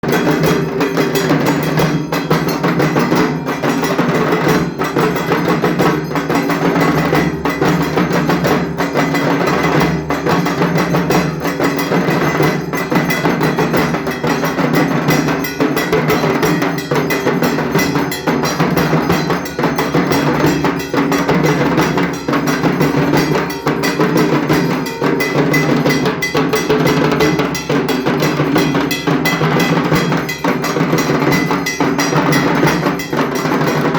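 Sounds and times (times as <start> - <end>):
barrel drum beaten with sticks: 0.0 - 33.9.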